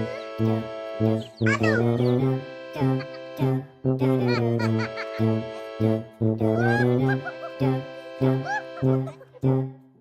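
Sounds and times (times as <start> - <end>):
gliding cartoon sounds: 0.0 - 9.7
upbeat children's music: 0.0 - 10.0.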